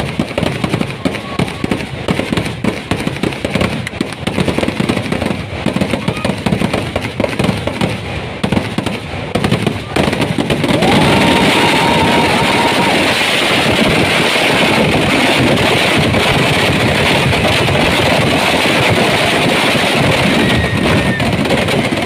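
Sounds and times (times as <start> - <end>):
firecrackers roaring continuously: 0.0 - 22.0
firework whistling: 0.0 - 22.0.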